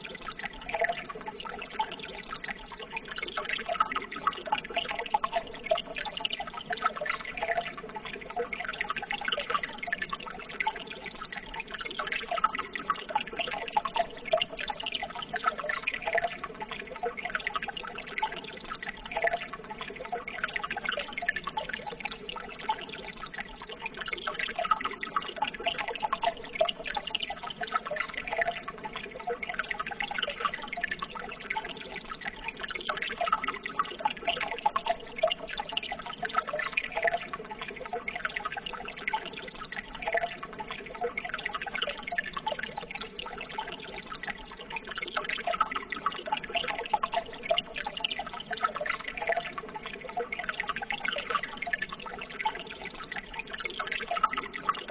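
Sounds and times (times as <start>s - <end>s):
small splashes and drips: 0.0s - 54.9s
water flowing and trickling: 0.0s - 54.9s.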